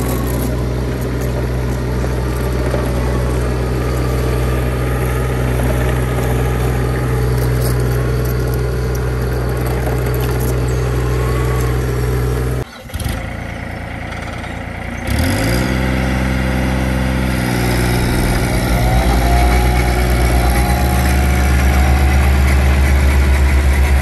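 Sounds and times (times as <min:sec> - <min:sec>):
roller compactor engine running: 0:00.0 - 0:24.0.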